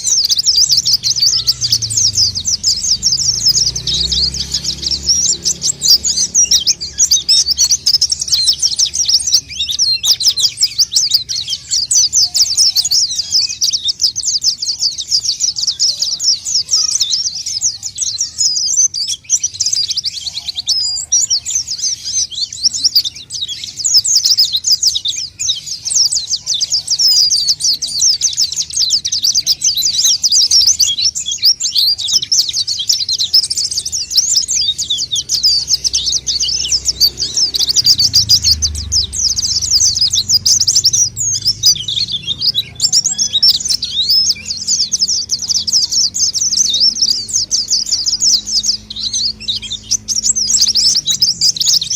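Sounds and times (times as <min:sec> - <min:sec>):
bird twittering song: 0:00.0 - 0:51.9.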